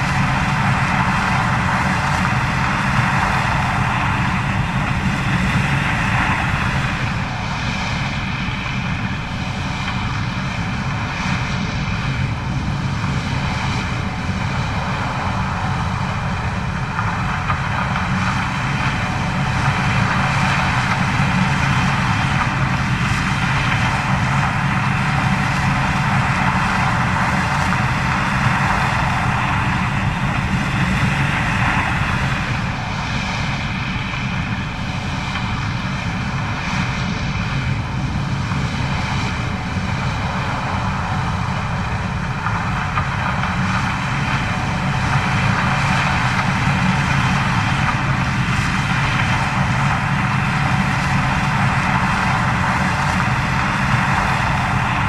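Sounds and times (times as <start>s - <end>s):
heavy machinery drone: 0.0s - 55.0s.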